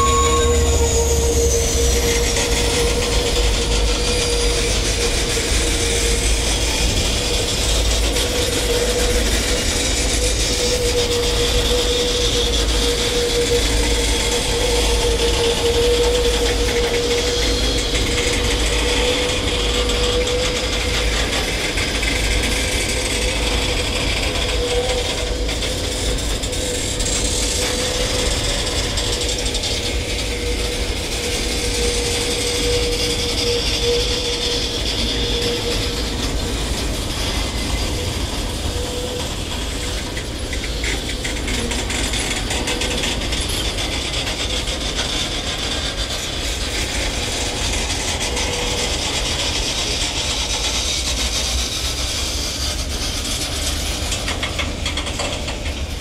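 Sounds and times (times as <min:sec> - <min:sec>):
continuous whine: 0:00.0 - 0:56.0
train wheels rumbling on track: 0:00.0 - 0:56.0.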